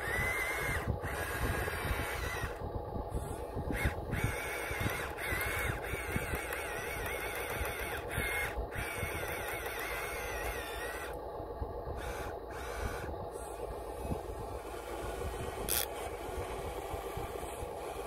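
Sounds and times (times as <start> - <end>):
short motor blips: 0.0 - 11.2, 12.0 - 18.0
electric motor whine: 0.0 - 11.3, 11.9 - 18.0.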